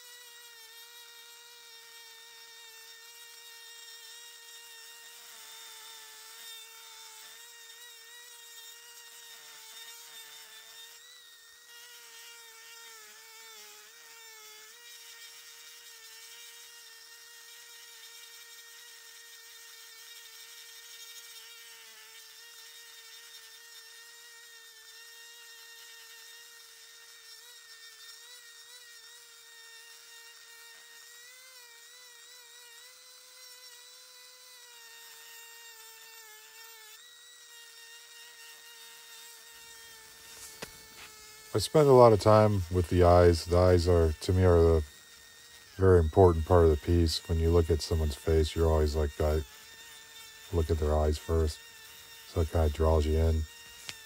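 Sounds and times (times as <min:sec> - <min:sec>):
rotary tool grinding wood: 0:00.0 - 0:54.0.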